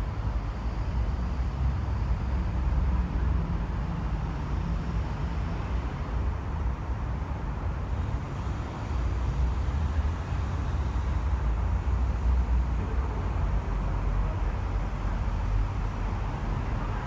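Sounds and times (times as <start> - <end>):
expressway traffic rumble: 0.0 - 17.0.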